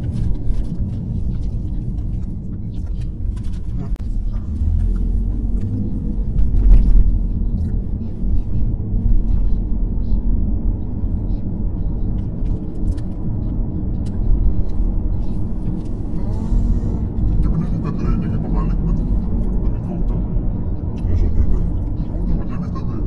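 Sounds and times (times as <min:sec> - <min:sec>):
car tyre and engine rumble: 0:00.0 - 0:23.0.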